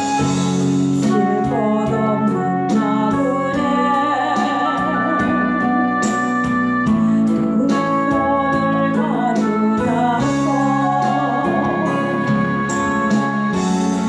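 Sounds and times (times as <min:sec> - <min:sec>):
praise song music: 0:00.0 - 0:14.0.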